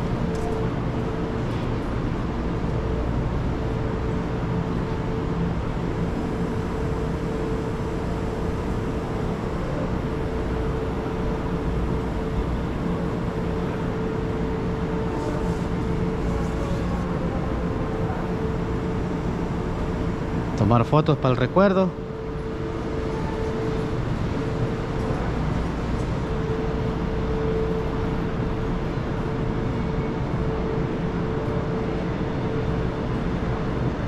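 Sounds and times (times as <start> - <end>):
machinery hum and rumble: 0.0 - 34.0.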